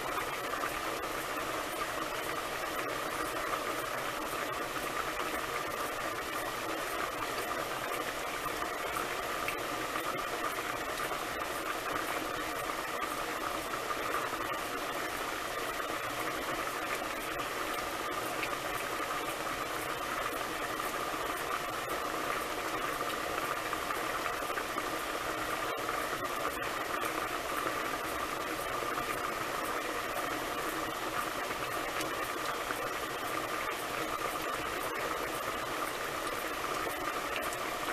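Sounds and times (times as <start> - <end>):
pot boiling and bubbling: 0.0 - 37.9.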